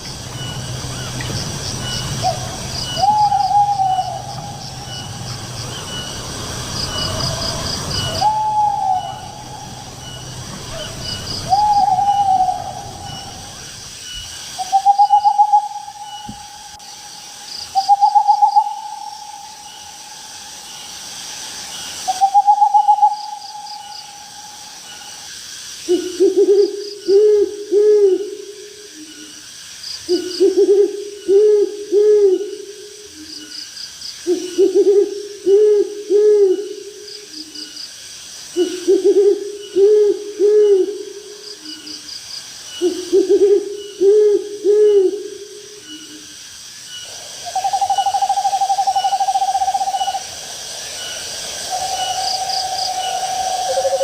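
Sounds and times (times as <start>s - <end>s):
owl hooting: 0.0s - 13.9s, 14.6s - 20.9s, 22.0s - 28.4s, 30.1s - 33.5s, 34.2s - 37.6s, 38.5s - 42.1s, 42.7s - 46.3s, 47.0s - 54.0s
night insects chirring: 0.0s - 54.0s.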